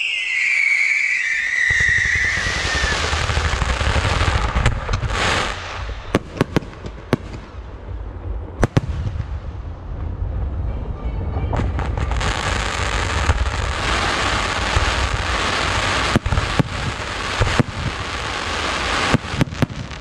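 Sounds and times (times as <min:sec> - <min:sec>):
firework fountains hissing and whistling: 0:00.0 - 0:06.2, 0:10.1 - 0:20.0.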